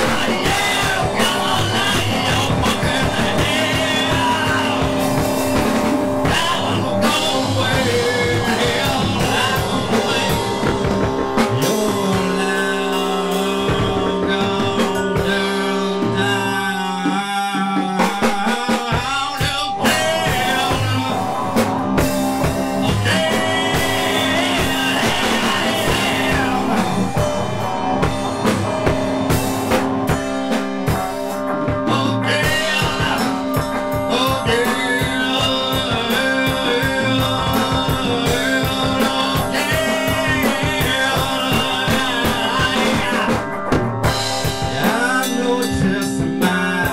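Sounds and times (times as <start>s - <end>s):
bending melodic line: 0.0s - 16.8s, 18.6s - 46.9s
rock band playing: 0.0s - 46.9s.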